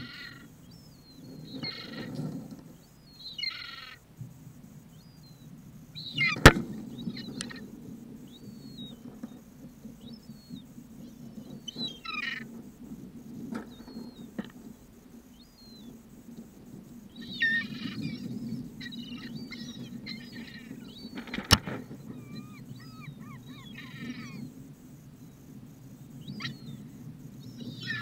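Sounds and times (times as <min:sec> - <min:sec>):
gulls calling: 0:00.0 - 0:04.1, 0:04.8 - 0:12.6, 0:15.3 - 0:28.0.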